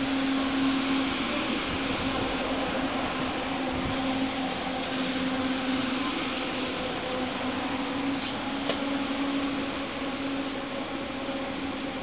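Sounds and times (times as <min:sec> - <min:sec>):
low hum: 0:00.0 - 0:12.0
train wheels rolling: 0:00.0 - 0:12.0.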